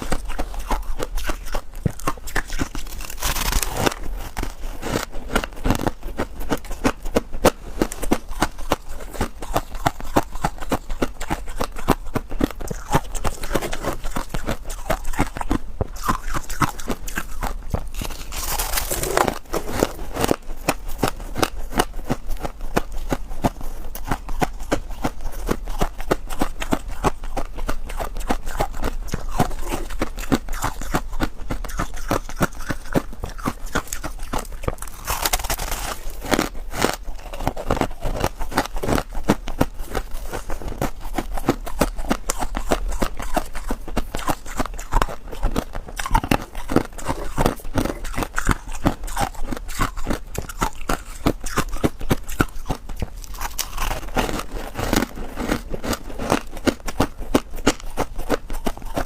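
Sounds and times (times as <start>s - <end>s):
frost crunching while chewed: 0.0s - 59.0s.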